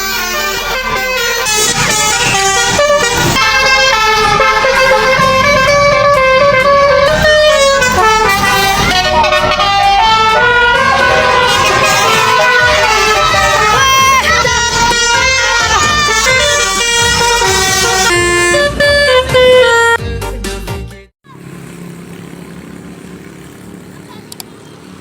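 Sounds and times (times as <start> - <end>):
multi-tone air horn melody: 0.0 - 20.4.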